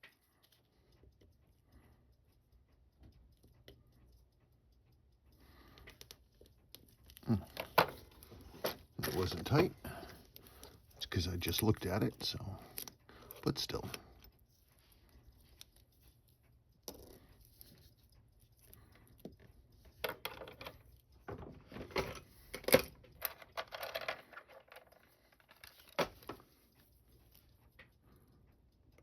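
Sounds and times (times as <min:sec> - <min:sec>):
metallic clicks of watch tools: 0:00.0 - 0:29.0.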